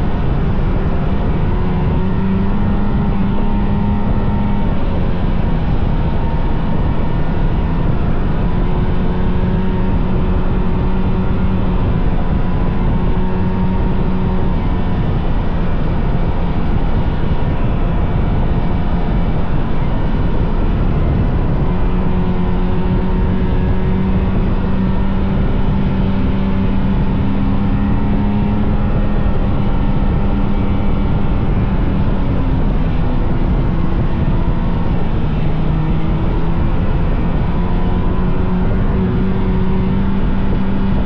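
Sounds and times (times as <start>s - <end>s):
two-stroke snowmobile engine droning: 0.0s - 41.0s.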